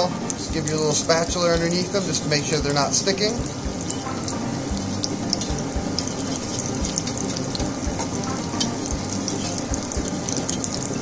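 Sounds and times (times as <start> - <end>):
pancakes sizzling in oil: 0.0 - 11.0.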